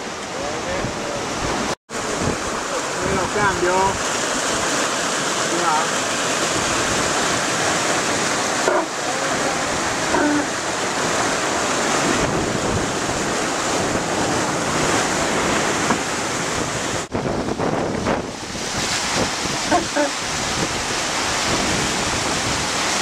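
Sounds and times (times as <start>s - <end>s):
rushing white water: 0.0s - 23.0s
wind buffeting microphone: 0.6s - 23.0s.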